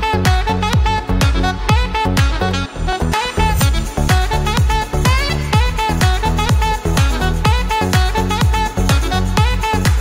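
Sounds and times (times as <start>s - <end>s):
kick drum beat: 0.0s - 2.4s, 3.6s - 10.0s.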